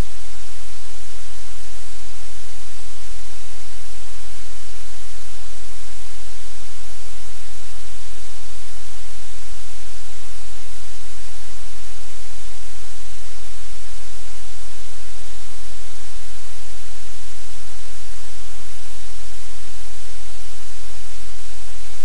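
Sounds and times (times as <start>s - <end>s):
low buzzing hum: 0.0s - 22.0s
static hiss: 0.0s - 22.0s.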